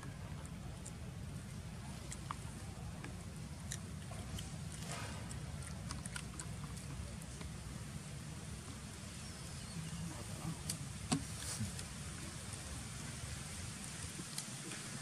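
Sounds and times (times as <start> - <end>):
monkey chewing clicks: 0.0 - 7.9, 9.6 - 14.8
low outdoor rumble: 0.0 - 15.0.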